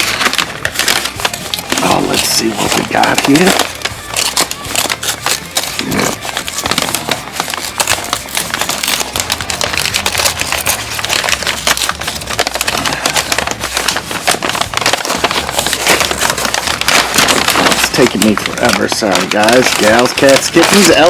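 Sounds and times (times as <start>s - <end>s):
wrapping paper crackling and tearing: 0.0s - 21.0s.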